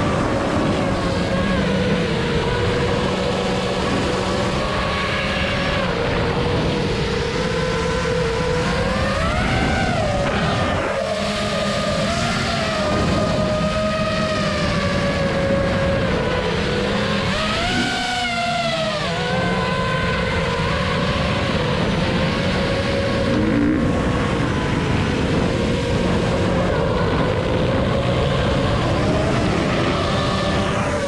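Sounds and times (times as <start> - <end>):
quadcopter motors whining: 0.0 - 31.0
steady rushing noise: 0.0 - 31.0.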